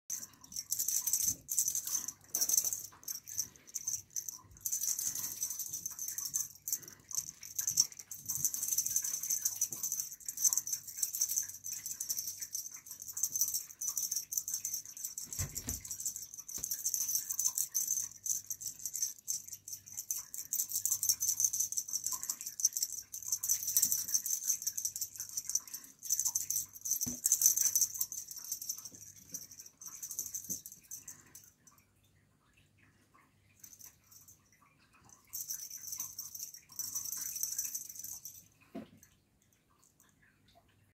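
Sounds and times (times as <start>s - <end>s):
cat toy rattling: 0.1s - 31.5s, 35.1s - 38.4s.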